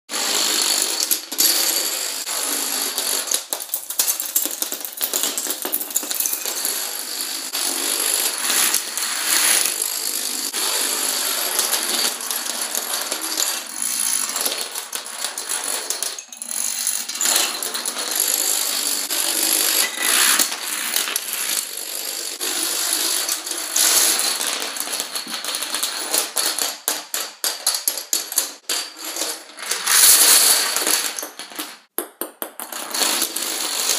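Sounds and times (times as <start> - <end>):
dominoes toppling: 0.3 - 31.9, 32.6 - 33.9.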